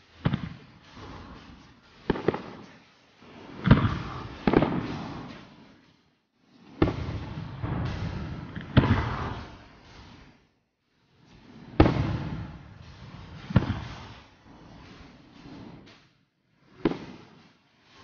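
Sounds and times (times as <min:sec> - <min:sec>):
firework shells bursting with echo: 0:00.0 - 0:18.0.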